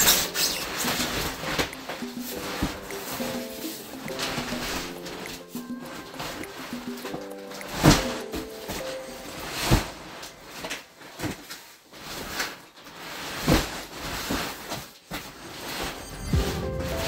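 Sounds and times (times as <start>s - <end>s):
cardboard rustling and scraping: 0.0s - 5.2s, 6.0s - 17.0s.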